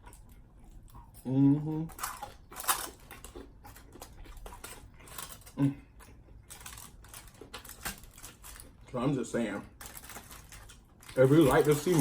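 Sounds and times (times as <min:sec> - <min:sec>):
chewing crunchy food: 0:00.0 - 0:09.0, 0:09.7 - 0:12.0.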